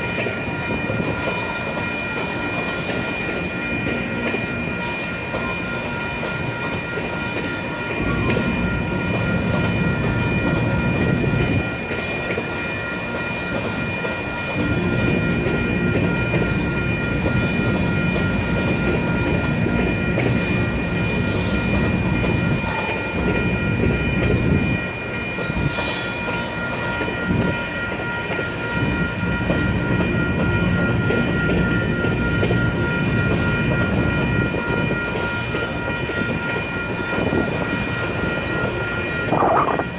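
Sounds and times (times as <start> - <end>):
train wheels rumbling and clanking: 0.0 - 39.9.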